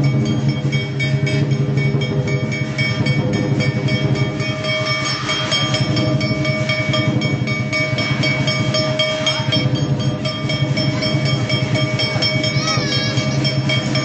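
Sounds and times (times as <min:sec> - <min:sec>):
cymbals clashing: 0:00.0 - 0:14.0
drum beaten fast: 0:00.0 - 0:14.0.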